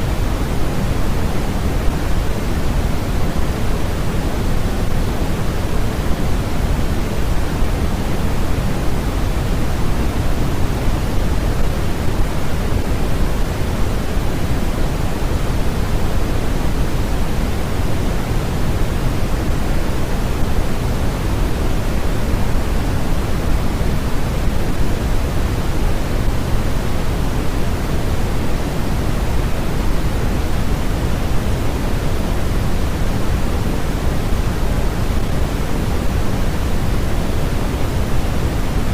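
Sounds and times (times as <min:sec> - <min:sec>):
low pink noise hiss: 0:00.0 - 0:38.9.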